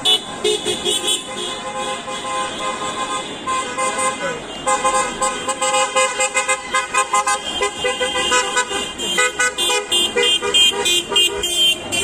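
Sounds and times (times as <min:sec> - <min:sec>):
car horns tooting: 0:00.0 - 0:12.0.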